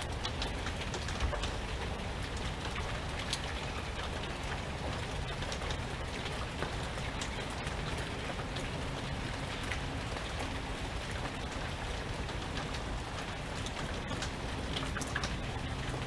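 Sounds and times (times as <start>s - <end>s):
low rumble of wind: 0.0s - 16.0s
rain drops ticking: 0.0s - 16.0s.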